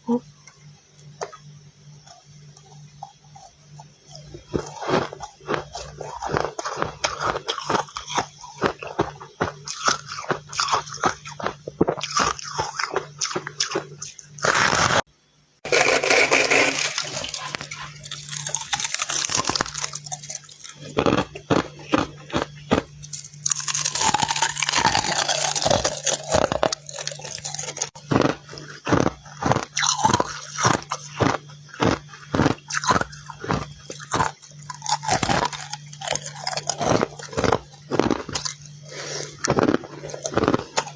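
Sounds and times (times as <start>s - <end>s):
faint steady hum: 0.0s - 40.9s
crunchy frost chewing: 2.1s - 15.1s, 15.7s - 40.9s.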